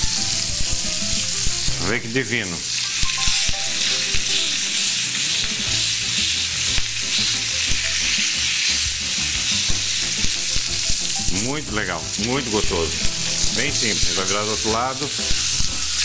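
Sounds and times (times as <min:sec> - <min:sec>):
steak sizzling in a hot pan: 0:00.0 - 0:16.0.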